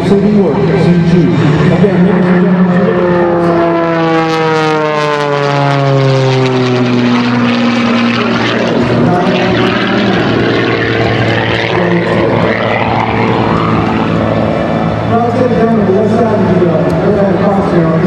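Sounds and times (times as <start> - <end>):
propeller plane flying past: 0.0 - 18.0.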